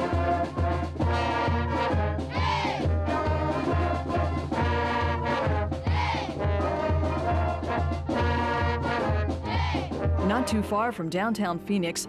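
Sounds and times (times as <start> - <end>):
school band playing upbeat tune: 0.0 - 12.0.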